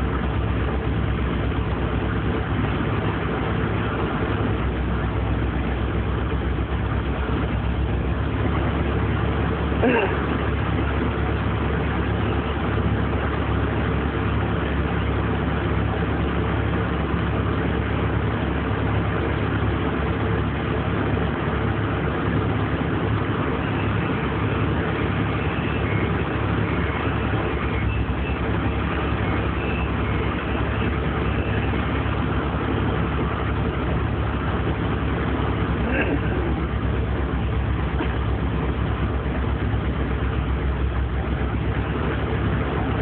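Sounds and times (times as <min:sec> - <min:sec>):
heavy machine engine droning: 0:00.0 - 0:43.0.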